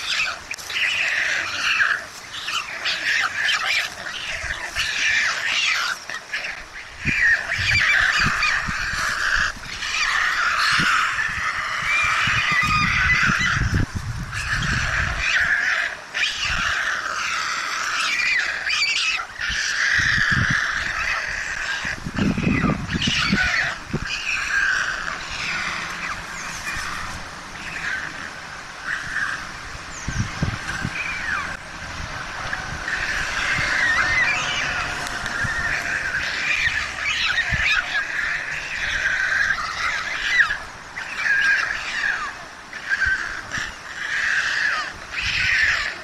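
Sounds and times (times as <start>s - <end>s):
stork chicks squealing: 0.0s - 31.6s, 32.2s - 46.0s.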